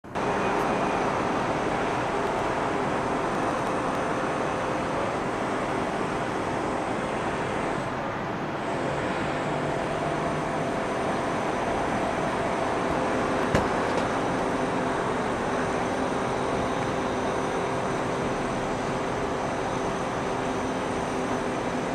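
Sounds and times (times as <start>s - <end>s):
city traffic: 0.0s - 21.9s.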